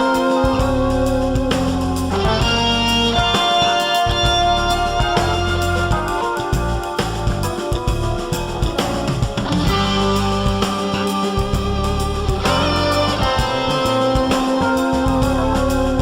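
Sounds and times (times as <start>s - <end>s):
guitar music over a beat: 0.0s - 16.0s.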